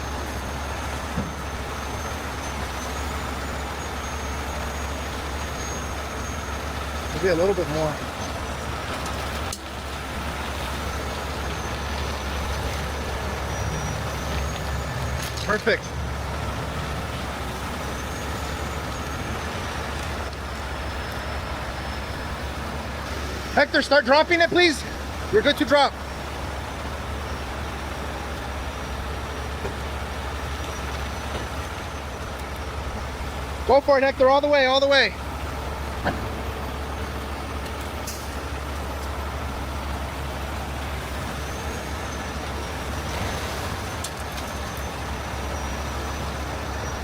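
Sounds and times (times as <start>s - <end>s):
heavy rain hiss: 0.0s - 47.0s
truck diesel engines running: 0.0s - 47.0s.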